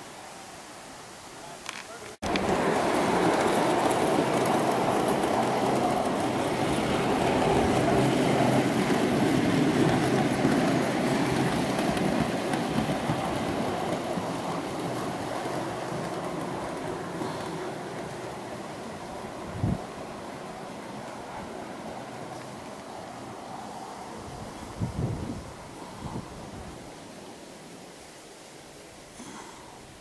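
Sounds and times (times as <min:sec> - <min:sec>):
model train wheels rumbling on rails: 0:01.6 - 0:27.0.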